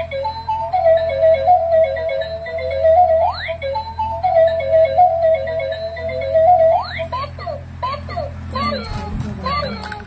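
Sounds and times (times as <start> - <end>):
electronic toy beeping melody: 0.0 - 10.0
low steady hum: 0.0 - 10.0.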